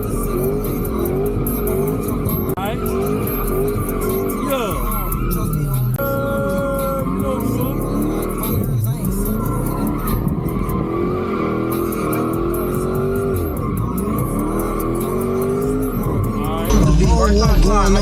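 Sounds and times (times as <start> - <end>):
car engine revving: 0.0 - 18.0
tires squealing: 0.0 - 18.0.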